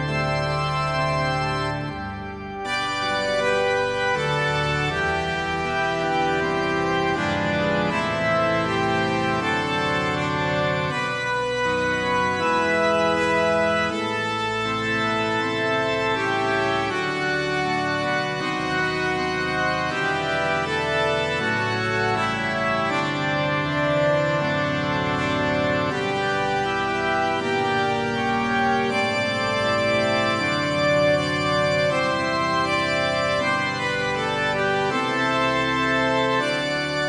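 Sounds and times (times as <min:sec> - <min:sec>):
organ playing sustained chords: 0:00.0 - 0:37.0.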